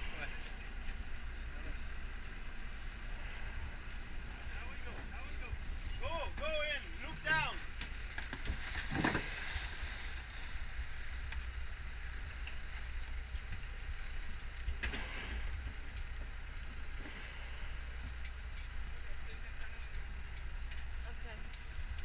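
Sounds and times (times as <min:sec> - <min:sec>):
boat engine running: 0:00.0 - 0:22.0
wind: 0:00.0 - 0:22.0.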